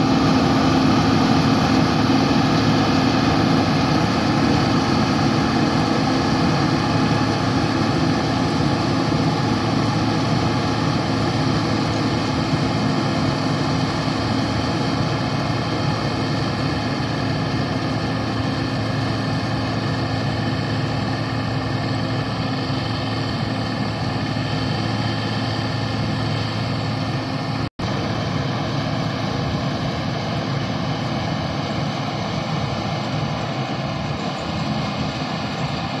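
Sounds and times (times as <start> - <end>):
combine harvester droning: 0.0 - 36.0.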